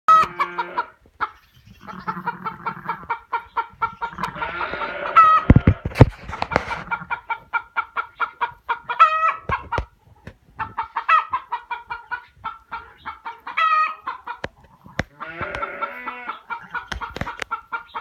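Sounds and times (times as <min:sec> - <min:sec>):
chickens clucking: 0:00.1 - 0:18.0.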